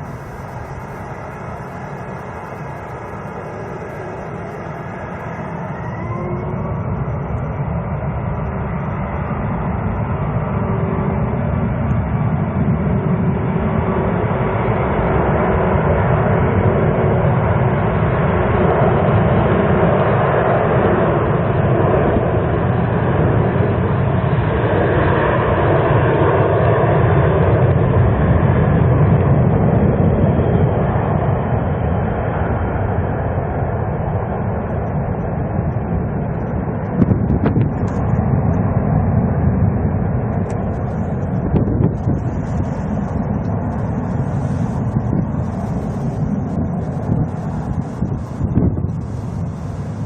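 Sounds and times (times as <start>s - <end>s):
jet engine rumble: 0.0s - 50.0s.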